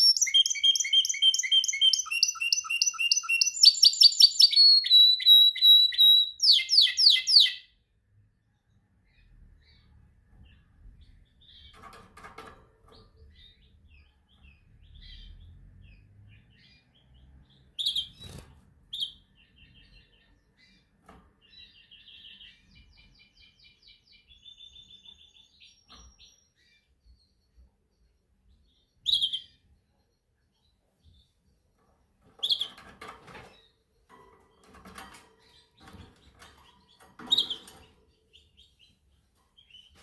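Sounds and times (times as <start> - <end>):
canary singing: 0.0 - 7.8, 13.1 - 20.8, 21.5 - 28.0, 28.6 - 31.3, 32.2 - 40.0.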